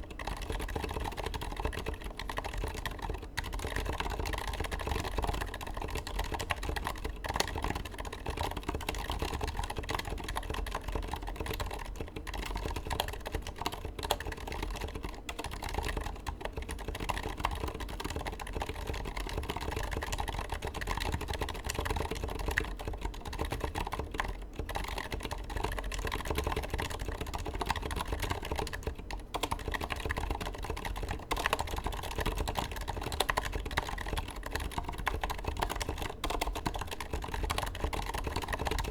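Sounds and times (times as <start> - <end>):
quiet mechanical keyboard typing: 0.0 - 38.9.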